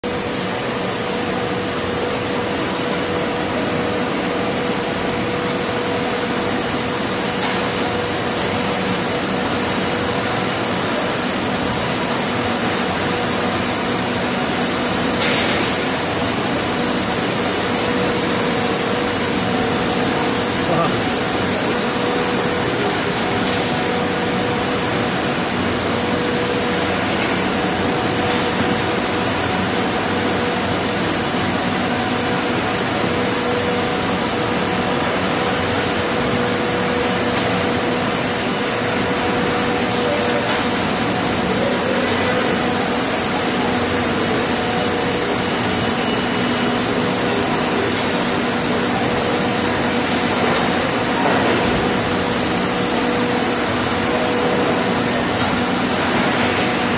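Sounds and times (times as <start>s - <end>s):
loud hiss of running machinery: 0.0s - 56.9s
steady machinery hum: 0.0s - 56.9s.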